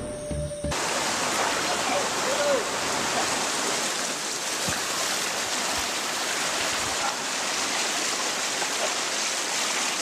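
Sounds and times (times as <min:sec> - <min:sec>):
stream water rushing: 0:00.7 - 0:10.0.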